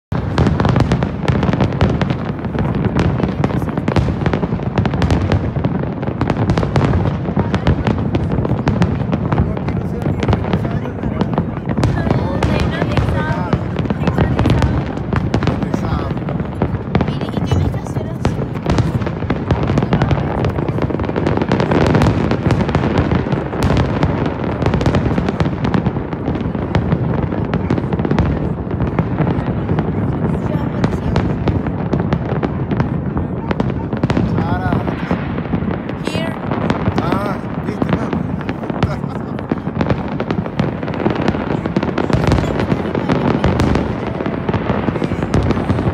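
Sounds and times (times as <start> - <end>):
distant explosions din: 0.1 - 45.9
fireworks bangs and crackles: 0.1 - 45.9
fireworks booming: 0.1 - 45.9.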